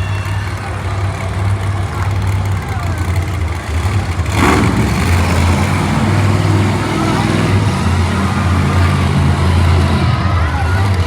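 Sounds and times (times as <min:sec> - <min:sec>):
truck engine running loud: 0:00.0 - 0:11.0.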